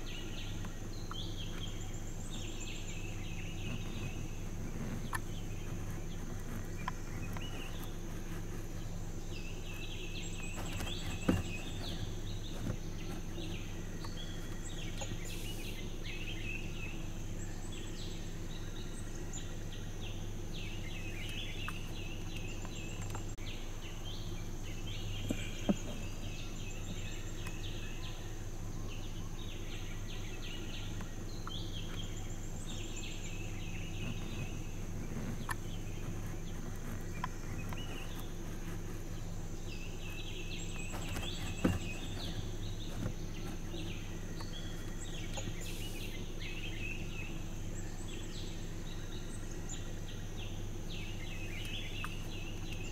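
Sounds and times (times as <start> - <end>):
birds calling: 0.0 - 52.9
constant low hum: 0.0 - 52.9
high insect drone: 0.0 - 52.9.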